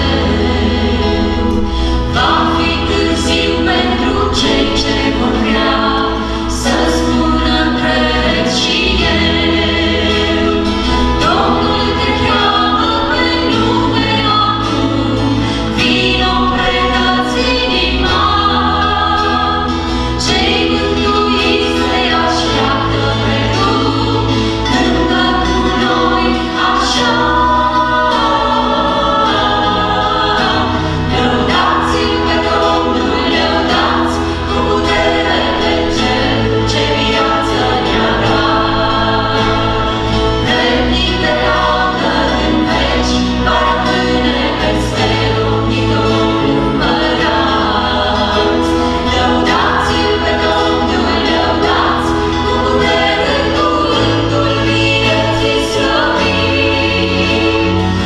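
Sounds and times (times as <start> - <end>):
acoustic guitar: 0.0 - 58.0
electric bass guitar: 0.0 - 58.0
vocal group singing in harmony: 0.0 - 58.0.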